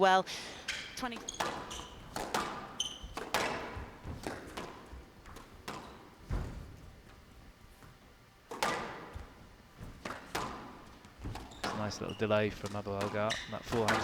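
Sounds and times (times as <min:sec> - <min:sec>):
squash ball hitting rackets and walls: 0:00.6 - 0:14.0.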